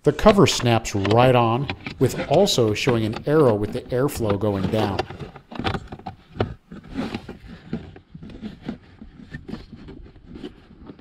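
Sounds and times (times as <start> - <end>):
hands rubbing plastic: 0.0 - 11.0.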